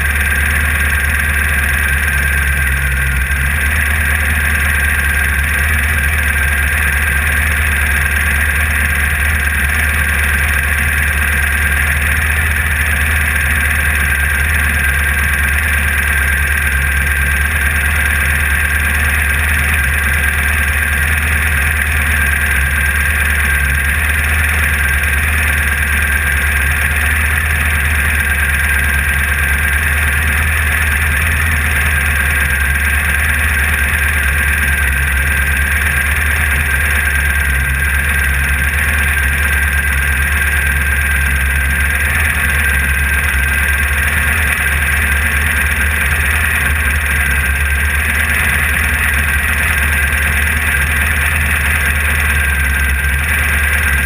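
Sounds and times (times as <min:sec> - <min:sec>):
race car engine running: 0:00.0 - 0:54.0.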